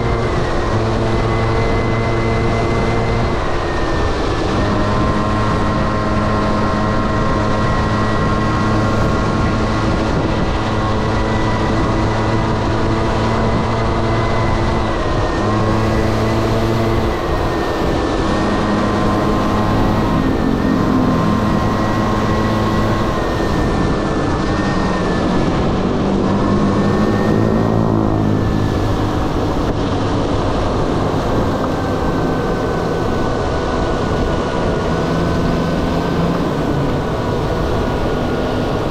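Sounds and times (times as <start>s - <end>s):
scooter engine buzzing: 0.0s - 38.9s
wind and road noise: 0.0s - 38.9s.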